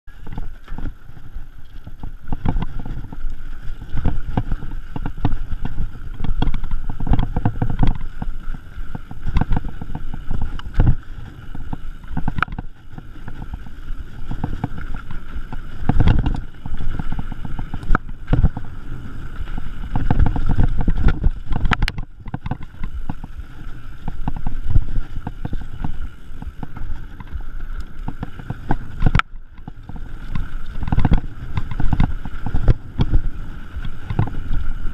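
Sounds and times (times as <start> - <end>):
bike rattles and knocks: 0.1 - 34.9
bike tyres rumbling over rough ground: 0.1 - 34.9.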